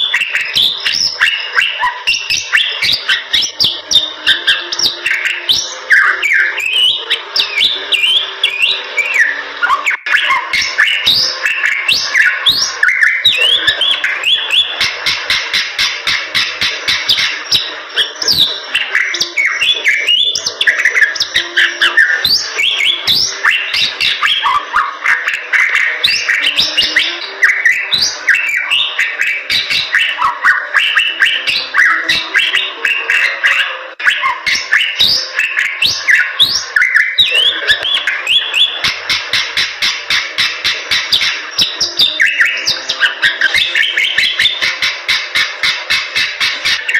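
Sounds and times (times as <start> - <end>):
bird whistling song: 0.0 - 46.9.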